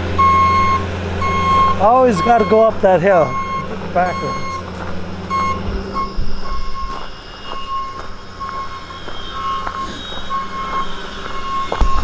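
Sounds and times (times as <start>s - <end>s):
diesel engine running: 0.0s - 12.0s
backup alarm beeping: 0.2s - 12.0s.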